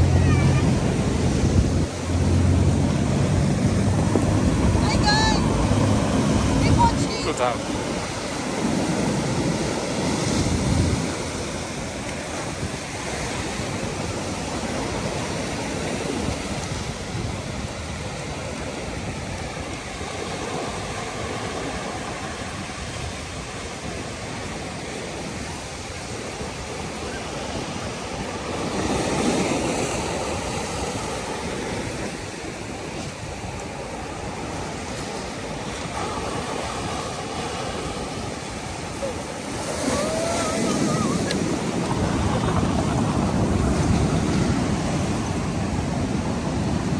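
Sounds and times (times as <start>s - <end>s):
sea surf breaking on concrete: 0.0s - 46.9s.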